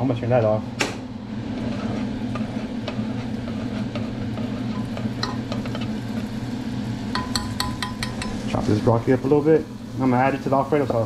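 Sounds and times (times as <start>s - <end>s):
steady low hum: 0.0s - 11.0s
utensil stirring sauce in pot: 1.5s - 11.0s.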